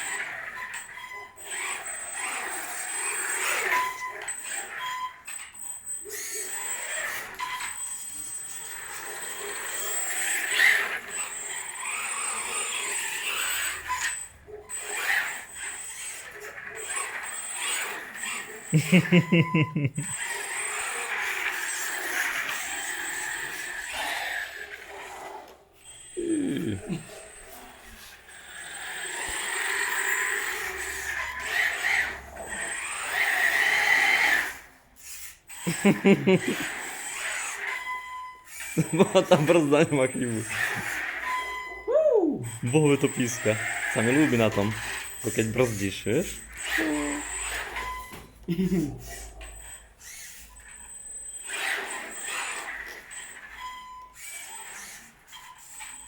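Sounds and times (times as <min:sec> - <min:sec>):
high brake squeal: 0:00.0 - 0:25.2, 0:25.8 - 0:56.0
rc car drivetrain whirring: 0:00.0 - 0:56.0.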